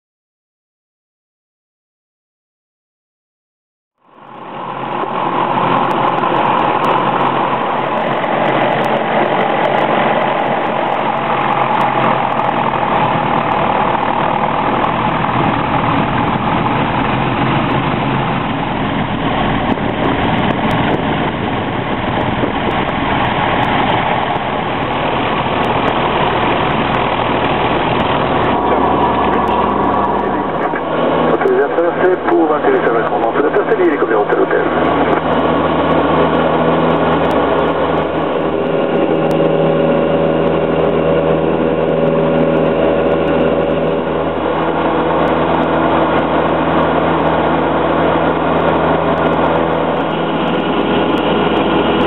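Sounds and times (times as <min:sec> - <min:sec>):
aircraft propeller engine running: 0:04.0 - 0:52.0.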